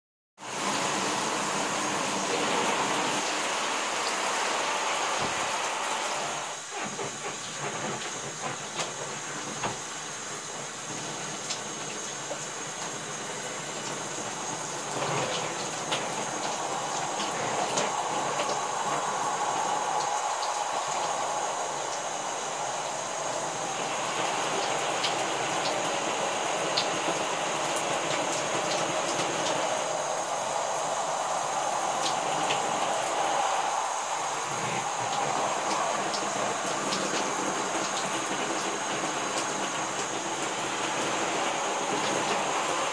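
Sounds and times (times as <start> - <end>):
shower water splashing: 0.4 - 42.9.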